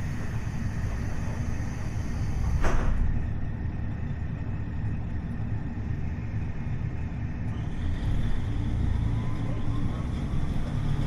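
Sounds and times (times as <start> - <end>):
diesel railcar rumbling: 0.0 - 11.0.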